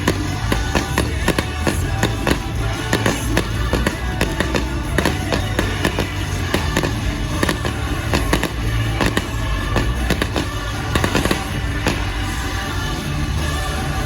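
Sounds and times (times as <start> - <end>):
fireworks popping and crackling: 0.0 - 13.8
loud show music: 0.0 - 14.0.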